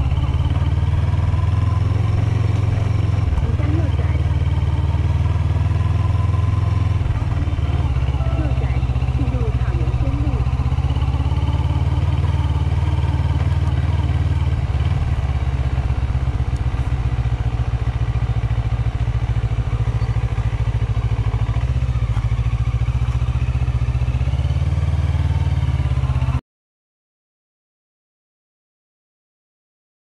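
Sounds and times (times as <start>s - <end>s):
motorcycle engine rumbling: 0.0s - 26.4s.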